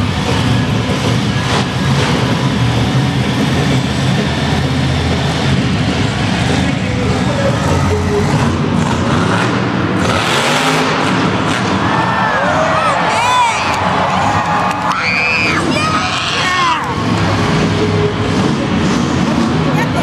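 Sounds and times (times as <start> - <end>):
crowd noise: 0.0 - 20.0
engine revving: 0.0 - 20.0
monster truck engines rumbling: 0.0 - 20.0.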